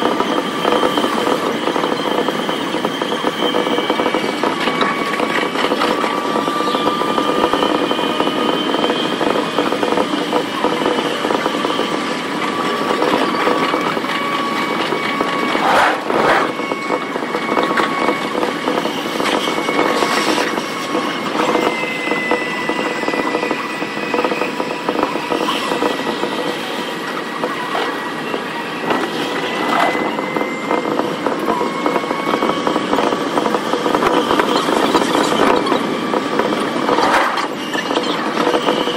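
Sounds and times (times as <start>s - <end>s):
train motor whine: 0.0s - 38.9s
wheel and rail noise: 0.0s - 38.9s.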